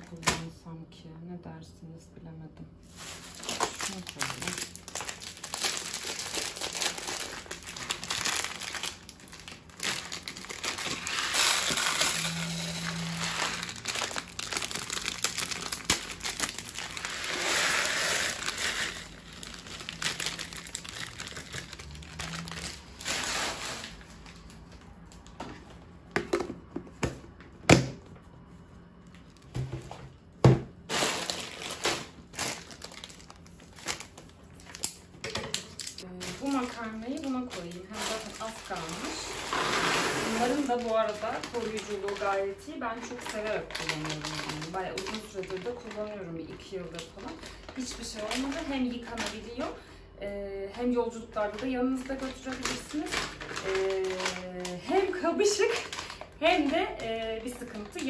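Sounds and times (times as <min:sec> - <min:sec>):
plastic packets crinkling: 0:02.8 - 0:25.3, 0:30.9 - 0:49.8, 0:51.1 - 0:58.0.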